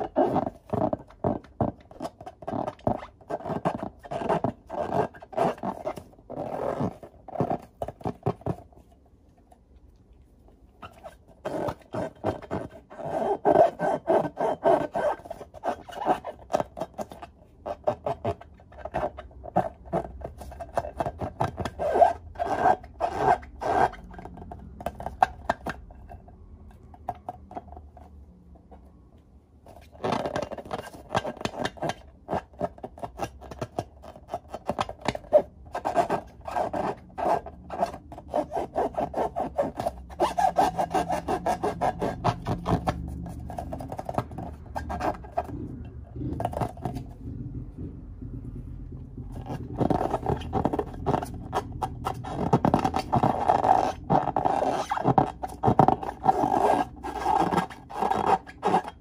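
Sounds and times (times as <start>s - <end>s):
hands rubbing balloons: 0.0s - 9.0s, 10.8s - 26.1s, 29.6s - 59.0s.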